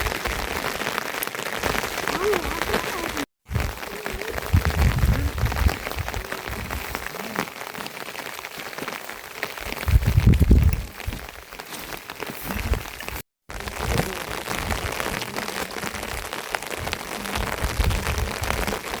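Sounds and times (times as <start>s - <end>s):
rain drops pattering: 0.0s - 19.0s.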